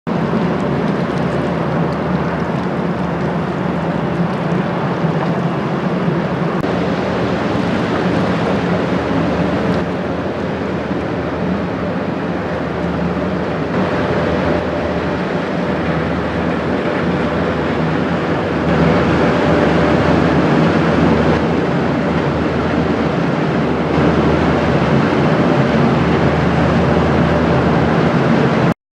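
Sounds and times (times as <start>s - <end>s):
boat diesel engine droning: 0.0s - 28.8s
wind noise: 0.1s - 28.7s
rushing water: 0.1s - 28.8s.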